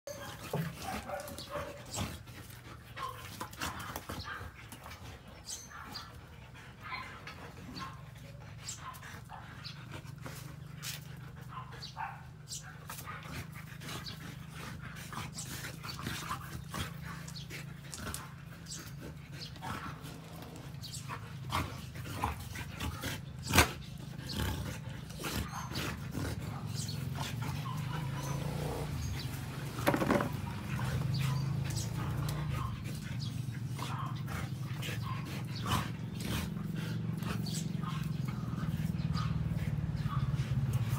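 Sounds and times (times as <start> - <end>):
dogs growling: 0.1 - 40.9.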